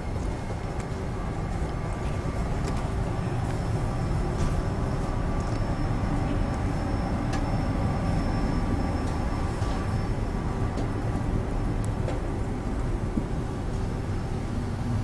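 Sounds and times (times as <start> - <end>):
faint whining tones: 0.0 - 15.0
train running rumble: 0.0 - 15.0.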